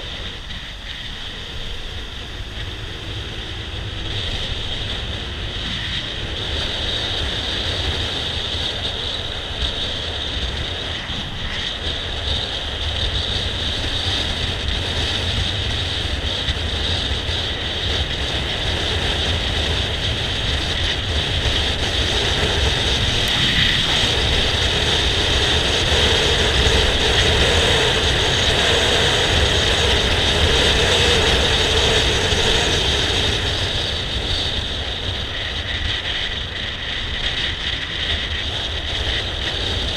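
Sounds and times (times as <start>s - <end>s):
road noise: 0.0s - 39.9s
scooter engine: 0.0s - 39.9s
wind rushing over microphone: 0.0s - 39.9s.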